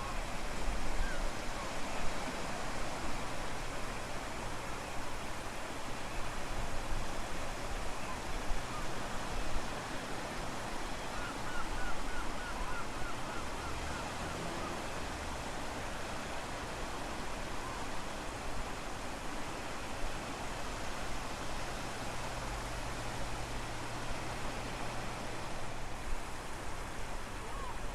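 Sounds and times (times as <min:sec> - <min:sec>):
surf washing: 0:00.0 - 0:27.9.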